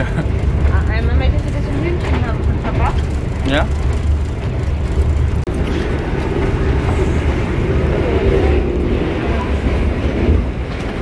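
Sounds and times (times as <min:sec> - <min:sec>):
moving train rumble: 0:00.0 - 0:11.0.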